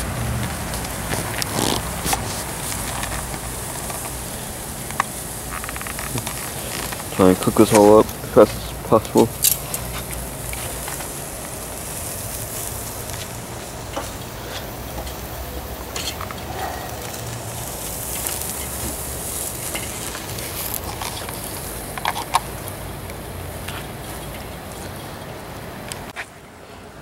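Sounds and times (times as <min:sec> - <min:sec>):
food sizzling on a grill: 0:00.0 - 0:25.8.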